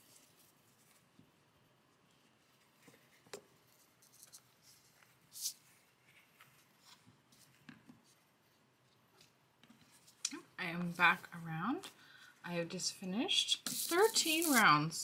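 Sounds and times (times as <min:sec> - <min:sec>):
yarn and crochet hook rustling: 0:00.0 - 0:12.0, 0:13.4 - 0:15.0.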